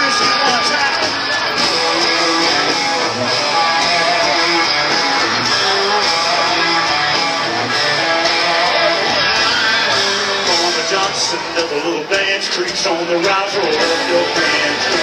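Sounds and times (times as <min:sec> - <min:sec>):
live band with guitars: 0:00.0 - 0:15.0.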